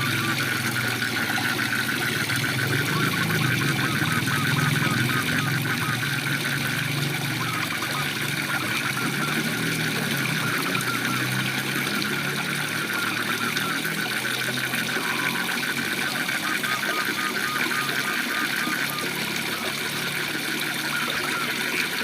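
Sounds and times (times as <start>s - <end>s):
waterfall rushing: 0.0s - 21.6s
frogs croaking: 0.0s - 22.0s.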